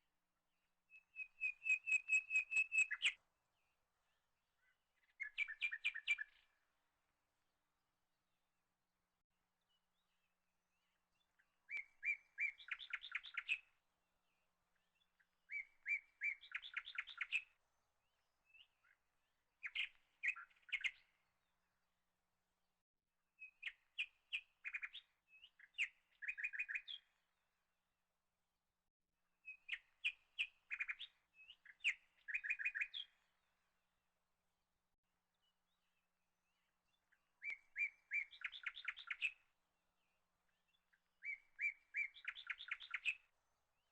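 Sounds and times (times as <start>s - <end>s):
songbird chirping and trilling: 0.9s - 6.6s, 9.6s - 21.8s, 23.4s - 27.7s, 29.4s - 33.9s, 35.3s - 43.9s.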